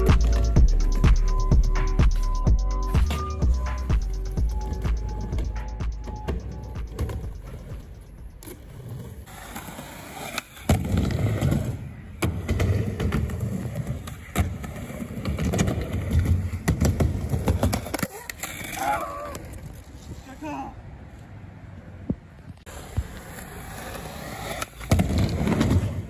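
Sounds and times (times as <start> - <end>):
skateboard wheels rolling: 0.0 - 26.0.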